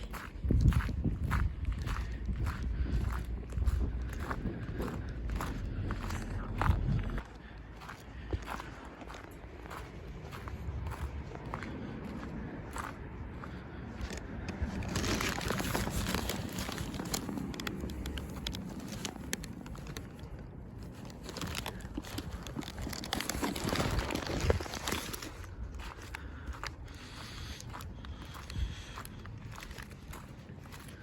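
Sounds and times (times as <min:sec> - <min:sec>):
footsteps crunching on snow: 0:00.0 - 0:31.0.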